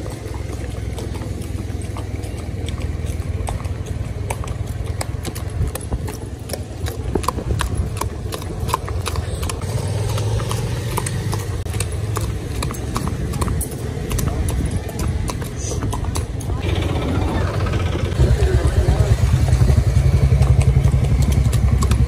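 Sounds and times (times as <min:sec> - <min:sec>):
horse hooves clip-clopping: 0:00.0 - 0:22.0.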